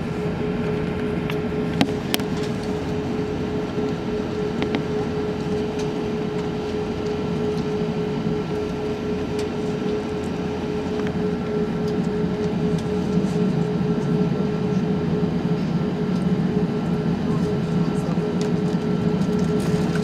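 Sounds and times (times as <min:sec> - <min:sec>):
aircraft engines rumbling: 0:00.0 - 0:20.0
constant hum: 0:00.0 - 0:20.0.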